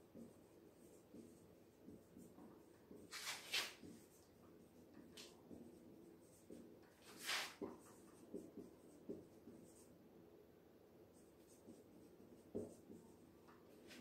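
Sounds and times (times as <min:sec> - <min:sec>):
marker scratching on whiteboard: 0:00.1 - 0:10.0, 0:11.1 - 0:14.0.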